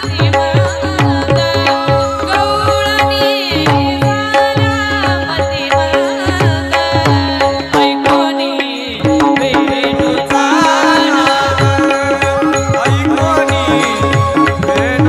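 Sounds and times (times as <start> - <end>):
tabla strokes: 0.0 - 15.0.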